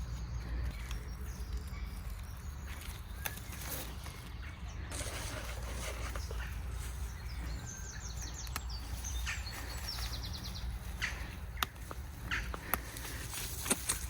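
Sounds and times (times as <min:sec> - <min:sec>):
songbirds trilling: 0:00.0 - 0:14.0.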